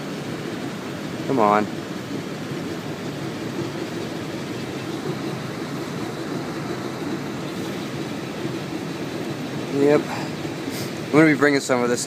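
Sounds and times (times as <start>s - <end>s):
machinery rumble and hiss: 0.0s - 12.0s.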